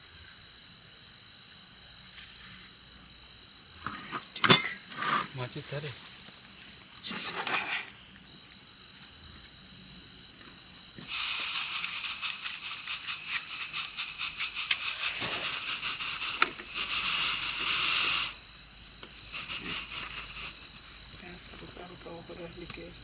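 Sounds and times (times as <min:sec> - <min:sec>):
gas stove hissing: 0:00.0 - 0:23.0.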